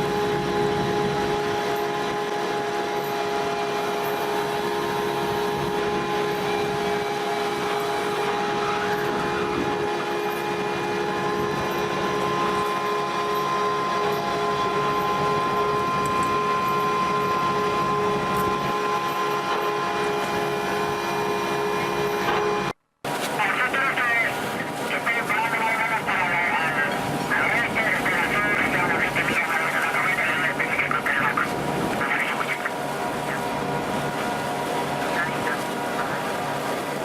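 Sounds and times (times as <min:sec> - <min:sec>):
machinery droning: 0:00.0 - 0:22.7, 0:23.4 - 0:37.0.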